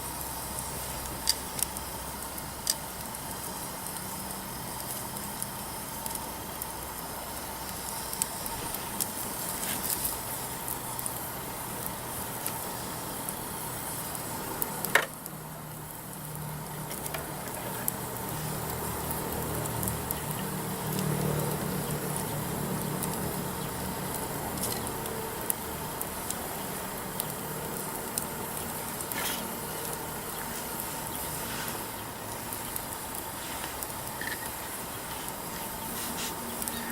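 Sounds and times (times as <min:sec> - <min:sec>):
campfire crackling: 0:00.0 - 0:36.9
sharp crack of fire: 0:00.0 - 0:36.9.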